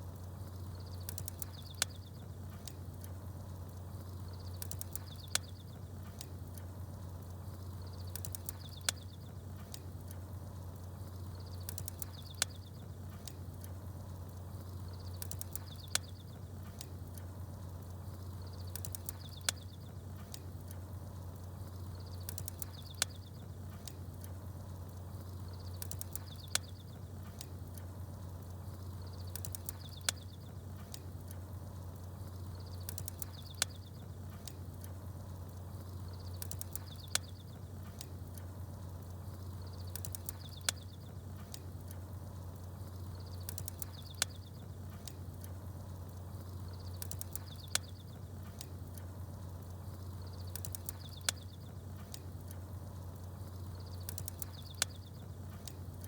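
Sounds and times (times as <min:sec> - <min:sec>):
campfire crackling and popping: 0:00.0 - 0:56.0
small birds chirping: 0:00.0 - 0:56.0.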